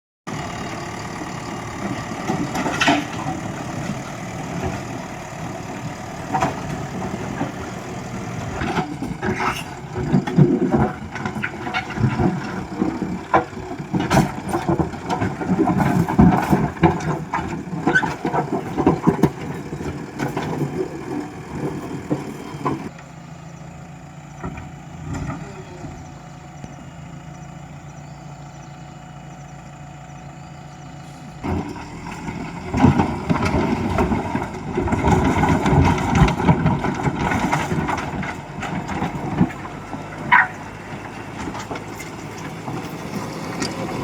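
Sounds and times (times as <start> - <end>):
diesel engine running: 0.3 - 44.0.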